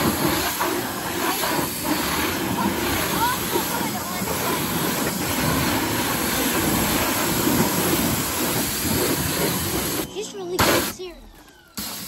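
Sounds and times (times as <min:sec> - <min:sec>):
pressure washer spraying water: 0:00.0 - 0:11.0, 0:11.8 - 0:12.0.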